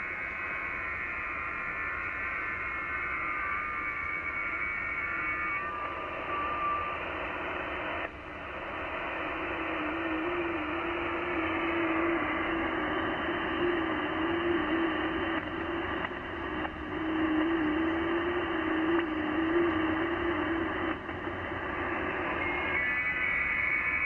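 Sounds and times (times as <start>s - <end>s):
radio band hiss: 0.0s - 24.0s.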